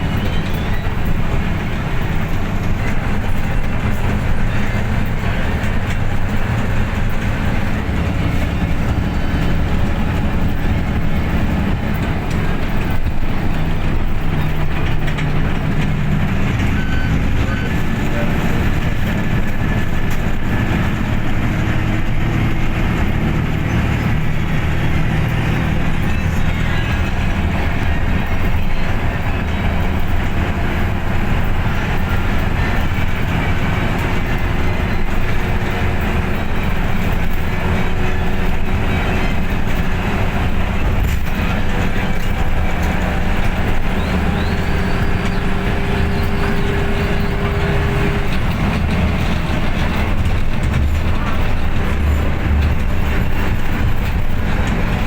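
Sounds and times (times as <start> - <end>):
heavy truck engine and road rumble: 0.0 - 55.0.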